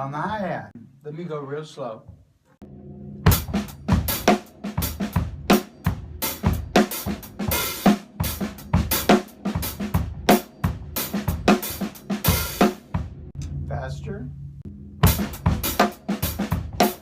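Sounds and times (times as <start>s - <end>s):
drum kit groove: 0.0s - 0.8s, 1.9s - 17.0s.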